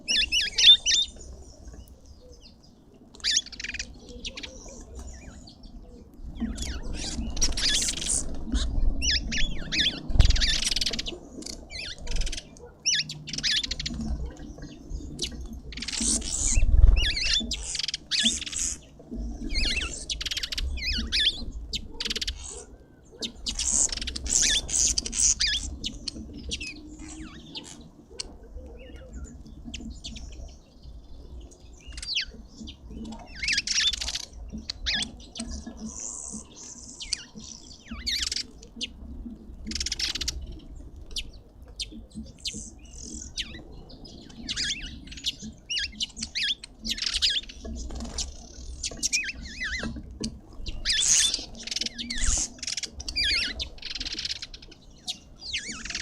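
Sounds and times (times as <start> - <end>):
garden birds chirping: 0.0 - 56.0.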